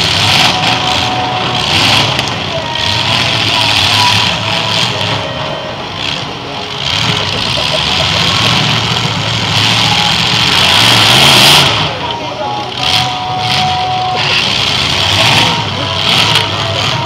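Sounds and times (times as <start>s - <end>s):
car engines running loudly: 0.0s - 17.0s.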